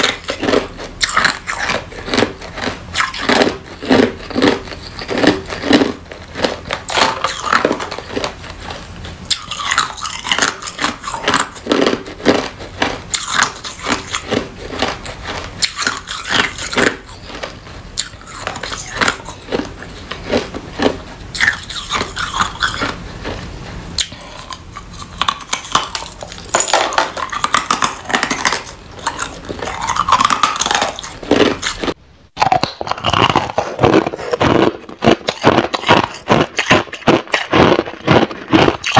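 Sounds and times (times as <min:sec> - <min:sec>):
ice crunching between teeth: 0:00.0 - 0:38.9.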